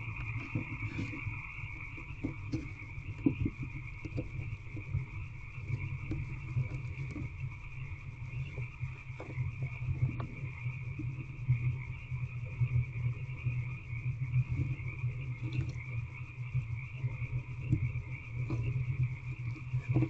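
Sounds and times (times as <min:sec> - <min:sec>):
night animals chorus: 0:00.0 - 0:20.0.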